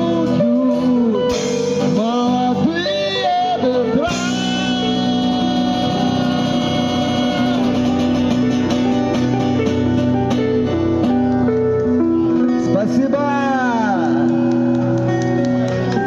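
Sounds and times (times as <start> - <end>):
bass guitar: 0.0 - 16.0
drums: 0.0 - 16.0
electric guitar: 0.0 - 16.0.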